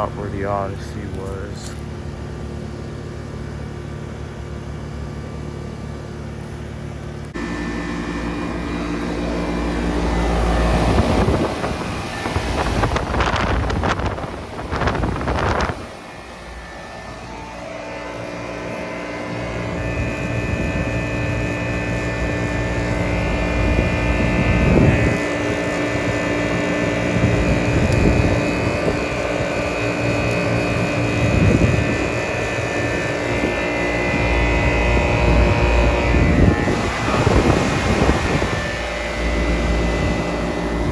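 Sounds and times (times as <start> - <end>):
air conditioner unit humming: 0.0 - 40.9
wind noise on microphone: 7.3 - 40.9.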